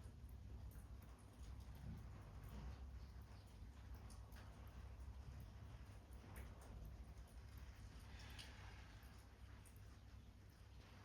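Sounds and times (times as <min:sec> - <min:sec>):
faint rain rumble: 0:00.0 - 0:11.0.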